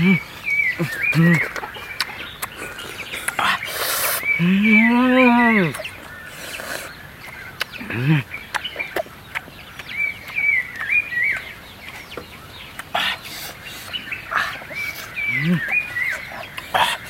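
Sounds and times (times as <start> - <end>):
low rising and falling bird call: 0.0 - 17.0.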